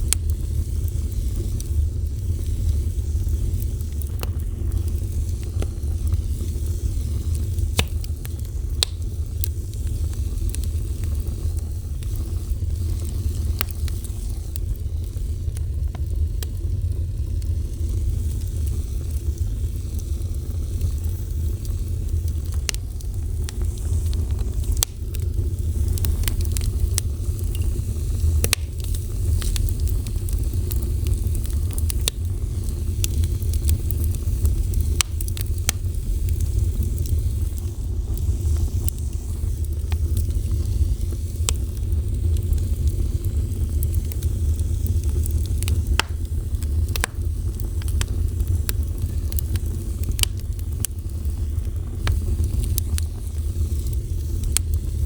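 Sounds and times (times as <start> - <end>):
fire crackling and popping: 0.0 - 55.0
wood fire rumbling: 0.0 - 55.0.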